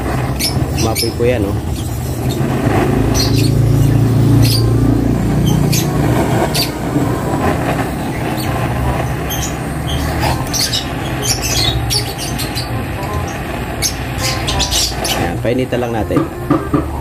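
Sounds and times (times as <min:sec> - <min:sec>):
butane torch burning: 0:00.0 - 0:17.0.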